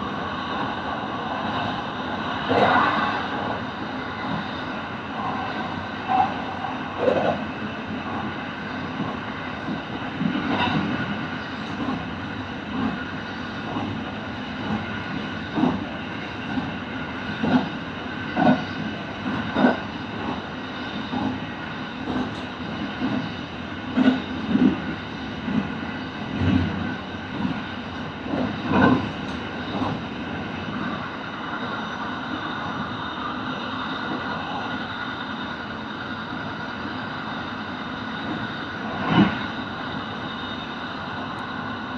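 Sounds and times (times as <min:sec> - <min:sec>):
train running on rails: 0:00.0 - 0:41.9.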